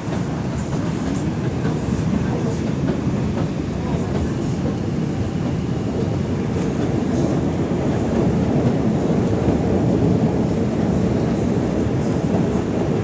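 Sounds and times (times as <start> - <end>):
subway wheels rumbling on track: 0.0 - 13.0.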